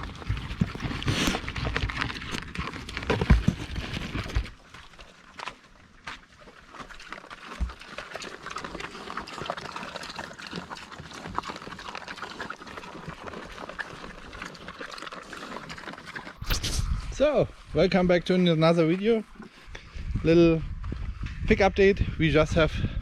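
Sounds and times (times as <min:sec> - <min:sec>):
pigs eating: 0:00.0 - 0:21.4.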